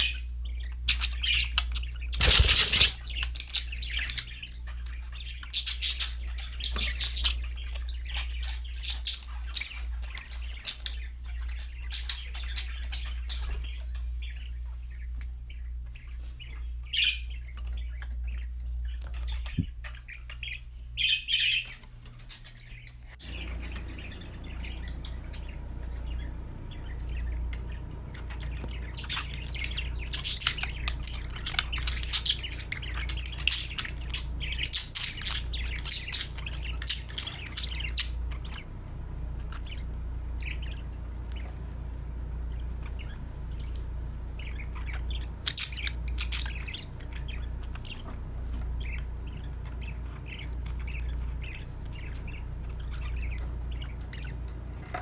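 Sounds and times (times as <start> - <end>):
budgerigars chirping and squawking: 0.0 - 55.0
steady low hum: 0.0 - 55.0.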